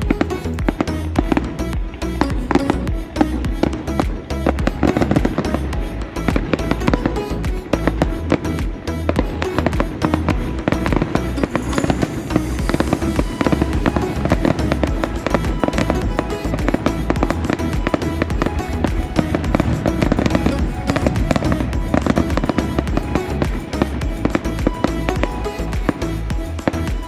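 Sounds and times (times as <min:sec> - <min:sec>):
music playing: 0:00.0 - 0:27.0.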